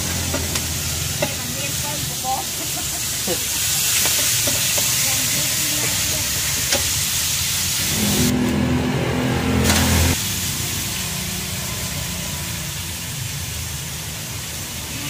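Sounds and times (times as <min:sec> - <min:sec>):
food sizzling in a wok: 0:00.0 - 0:08.4, 0:09.0 - 0:15.0
gas burner flame rumbling: 0:00.0 - 0:15.0.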